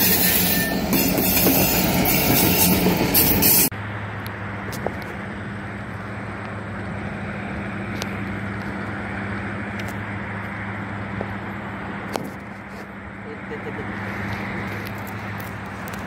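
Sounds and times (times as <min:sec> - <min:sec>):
distant traffic: 0:00.0 - 0:16.0.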